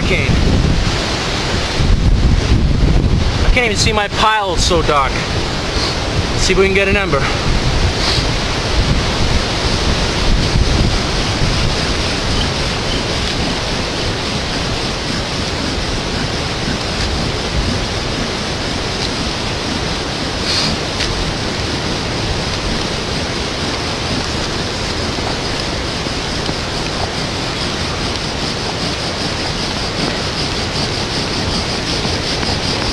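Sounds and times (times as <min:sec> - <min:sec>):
hurricane wind and rain: 0:00.0 - 0:32.9
wind gusts buffeting microphone: 0:00.0 - 0:32.9.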